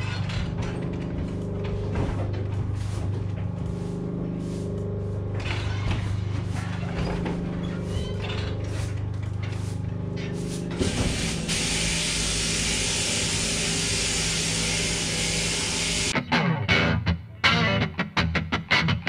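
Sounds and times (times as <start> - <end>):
shearing machine humming: 0.0 - 16.2.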